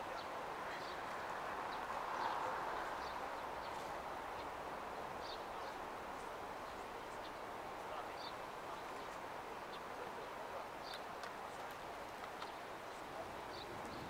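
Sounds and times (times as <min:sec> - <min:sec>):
city ambience low hum: 0:00.0 - 0:14.0.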